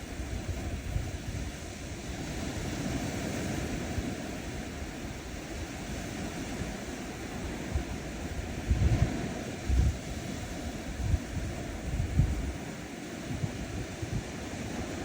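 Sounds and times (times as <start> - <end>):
surf washing on a shore: 0.0 - 15.0
wind buffeting the microphone: 0.0 - 15.0.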